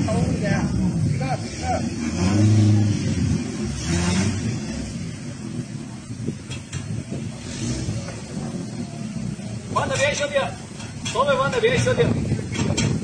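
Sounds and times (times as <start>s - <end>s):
van engine revving: 0.0s - 13.0s.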